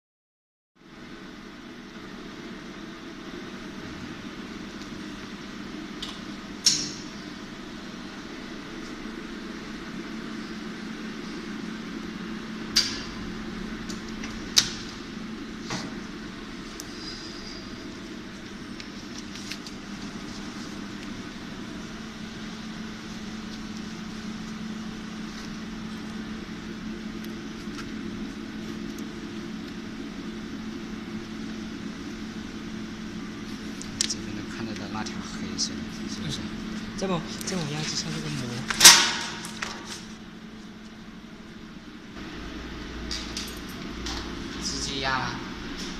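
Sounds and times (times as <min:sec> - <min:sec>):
welding machine humming: 0:01.2 - 0:45.9.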